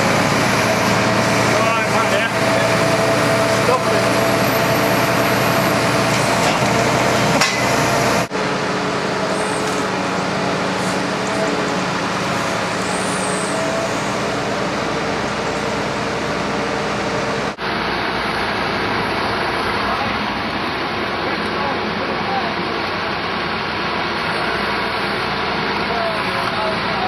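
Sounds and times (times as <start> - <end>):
crane engine droning with whine: 0.0 - 27.0.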